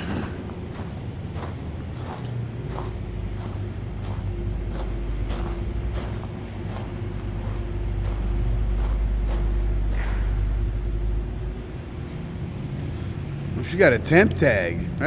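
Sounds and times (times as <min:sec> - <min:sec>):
footsteps on pavement: 0:00.0 - 0:12.2
car engine running: 0:00.0 - 0:15.0
low traffic rumble: 0:00.0 - 0:15.0
steady hum: 0:00.0 - 0:15.0.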